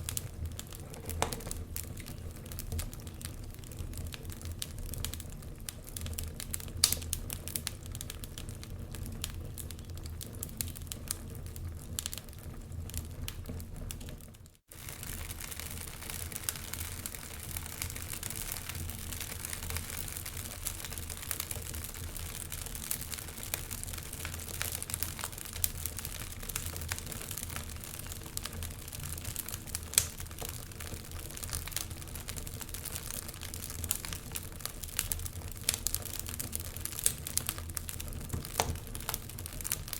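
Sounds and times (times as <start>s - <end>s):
log fire crackling and popping: 0.0s - 39.9s.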